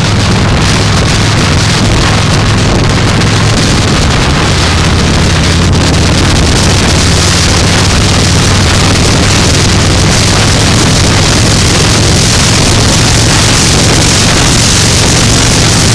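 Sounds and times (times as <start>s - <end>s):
motorcycle engine cruising: 0.0s - 15.9s
wind rush on microphone: 0.0s - 15.9s.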